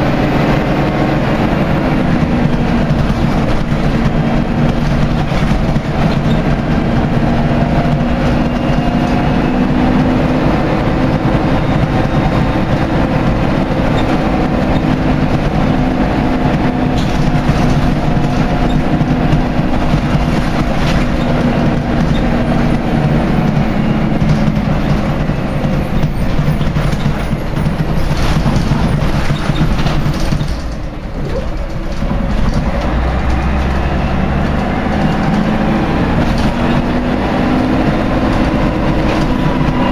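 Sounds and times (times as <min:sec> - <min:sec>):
bus diesel engine under load: 0:00.0 - 0:39.9
road and body rumble: 0:00.0 - 0:39.9.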